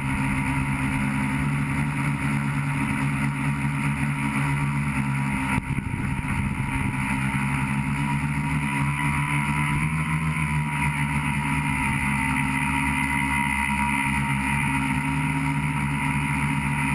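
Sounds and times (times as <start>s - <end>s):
drone motors buzzing: 0.0s - 16.9s.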